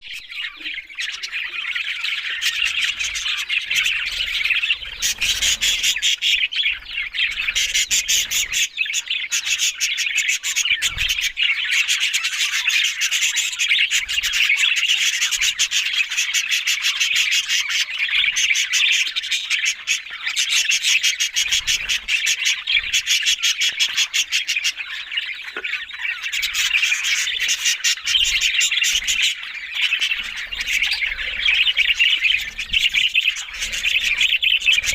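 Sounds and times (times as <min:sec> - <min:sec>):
budgerigar squawks: 0:00.0 - 0:34.9
budgerigars chirping: 0:00.0 - 0:34.9.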